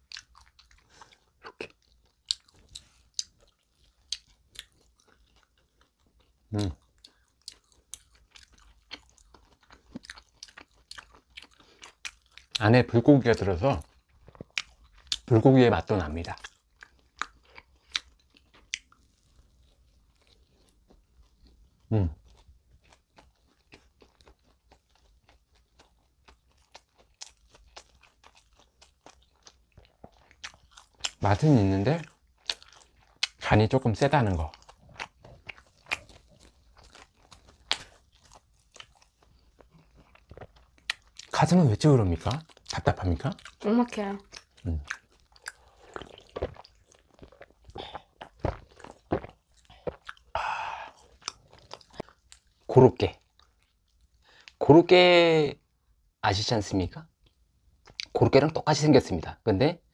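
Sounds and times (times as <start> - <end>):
crunchy chewing: 0.0 - 12.6, 13.7 - 15.3, 16.2 - 41.4, 42.2 - 43.6, 44.2 - 54.6.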